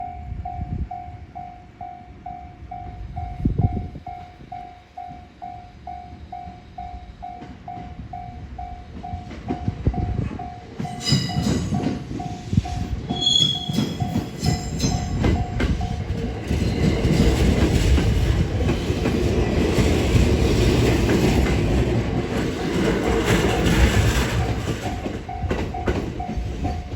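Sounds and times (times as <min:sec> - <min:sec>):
electric train running on rails: 0:00.0 - 0:26.9
level-crossing warning bell: 0:00.0 - 0:26.9
train wheel squeals: 0:03.2 - 0:21.7, 0:22.3 - 0:26.9.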